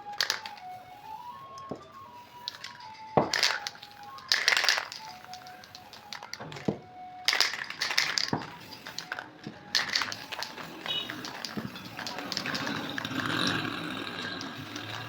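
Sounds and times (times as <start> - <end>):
simple background music: 0.0 - 15.0.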